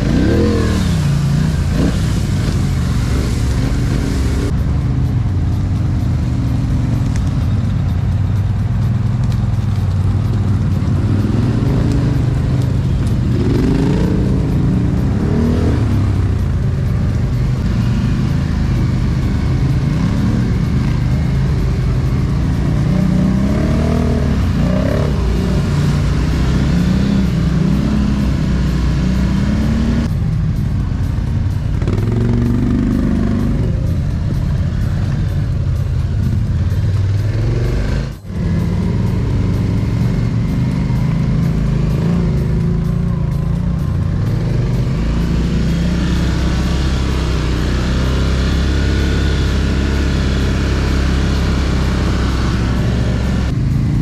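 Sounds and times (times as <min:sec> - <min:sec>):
quad bike engines revving: 0:00.0 - 0:04.6, 0:09.3 - 0:30.2, 0:31.6 - 0:35.5, 0:36.2 - 0:54.0.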